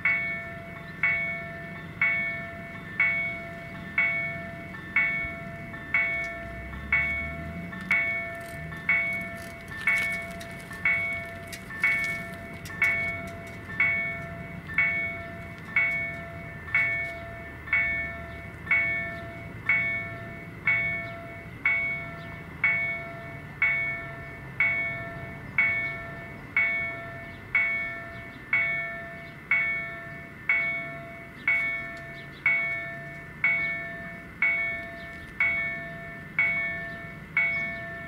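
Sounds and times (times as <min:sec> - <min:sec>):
level crossing warning bell: 0:00.0 - 0:38.0.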